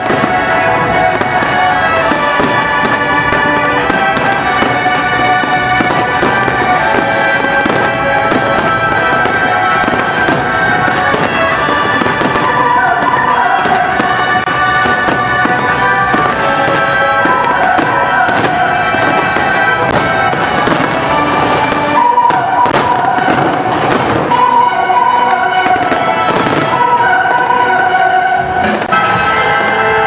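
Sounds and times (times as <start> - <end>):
fireworks bangs and crackles: 0.0 - 30.0
loud music: 0.0 - 30.0.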